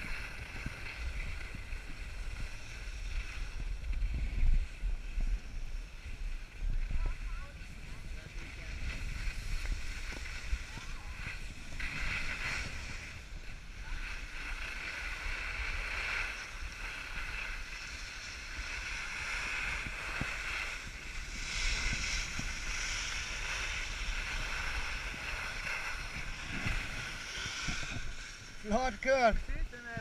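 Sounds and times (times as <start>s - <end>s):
skis scraping over snow: 0.0s - 30.0s
wind rumble on microphone: 0.0s - 30.0s.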